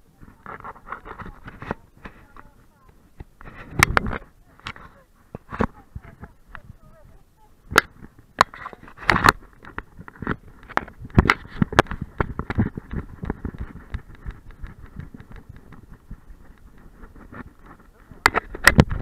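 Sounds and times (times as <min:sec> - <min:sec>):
camera bumps and thumps: 0:00.1 - 0:07.0, 0:07.7 - 0:19.0.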